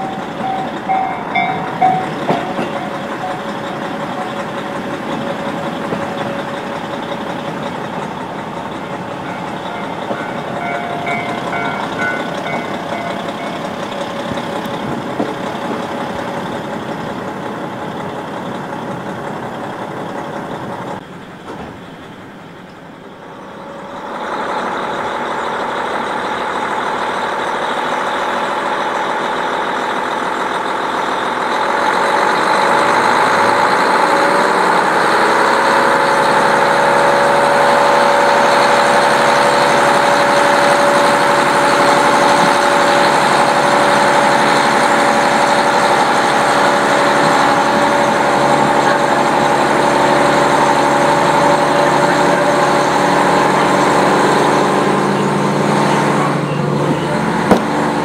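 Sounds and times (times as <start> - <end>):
railcar diesel engine working hard: 0.0 - 58.0.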